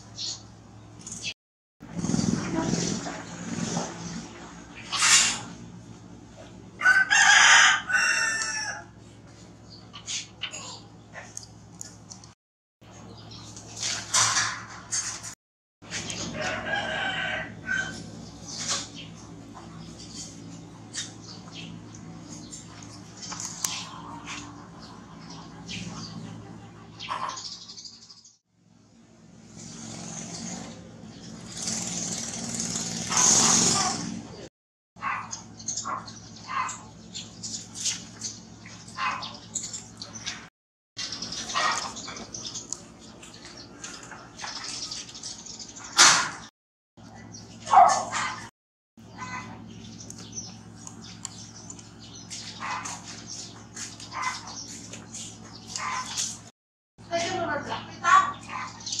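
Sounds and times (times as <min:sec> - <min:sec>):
engine hum: 0:00.0 - 0:59.0.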